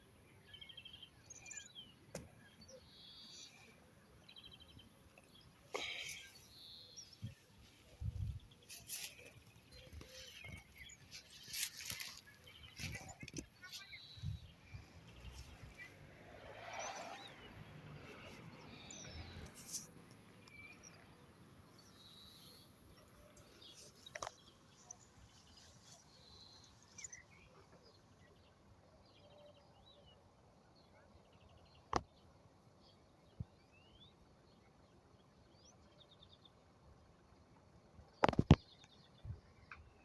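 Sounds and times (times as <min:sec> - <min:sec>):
faint bird chirps and trills: 0:00.3 - 0:40.0.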